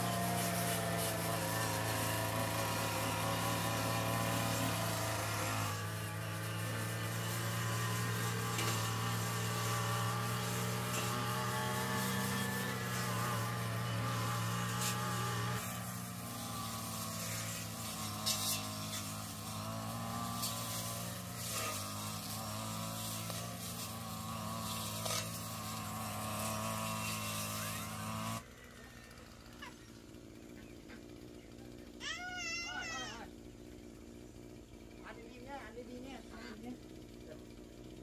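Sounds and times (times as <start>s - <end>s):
brush cutter engine cutting grass: 0.0s - 38.0s.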